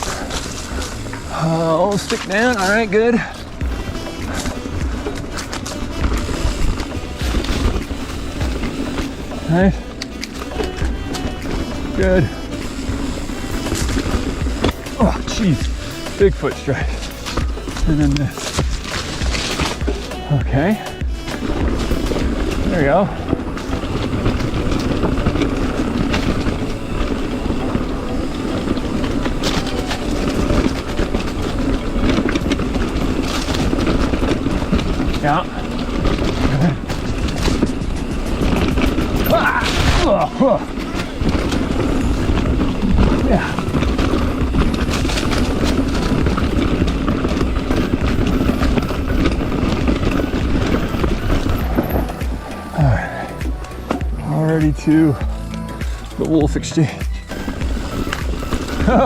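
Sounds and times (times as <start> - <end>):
mountain bike rattling over rocks: 0.0 - 59.0.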